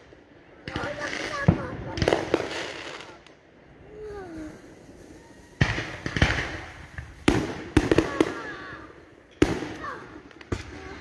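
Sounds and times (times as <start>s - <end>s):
fireworks banging: 0.0s - 3.5s, 4.5s - 11.0s.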